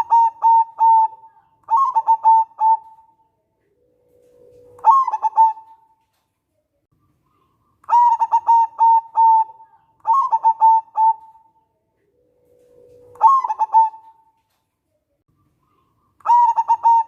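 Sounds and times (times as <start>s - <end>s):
dove cooing: 0.0s - 6.0s, 7.3s - 14.4s, 15.7s - 17.0s.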